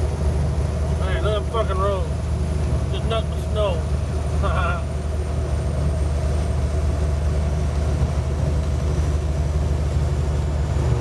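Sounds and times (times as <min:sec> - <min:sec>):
road and wind noise: 0:00.0 - 0:11.0
truck diesel engine drone: 0:00.0 - 0:11.0.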